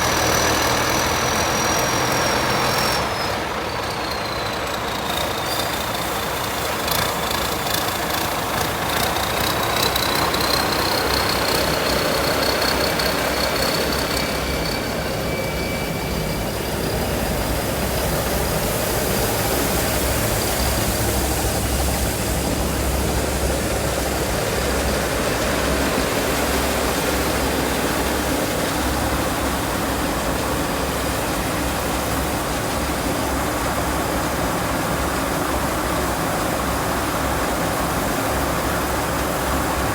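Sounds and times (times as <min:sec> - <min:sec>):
combine harvester engine droning: 0:00.0 - 0:39.9
high machine whine: 0:00.0 - 0:39.9.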